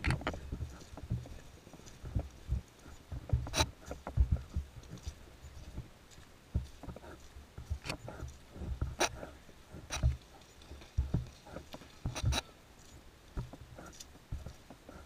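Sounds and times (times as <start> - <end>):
footsteps on artificial turf: 0.0 - 15.0
gear jostling: 0.0 - 15.0.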